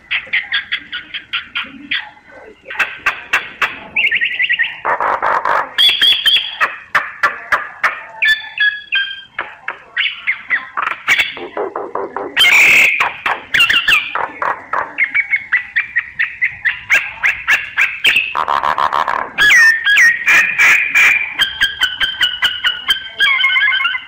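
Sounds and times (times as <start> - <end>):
harsh rasping bird calls: 0.0 - 24.0.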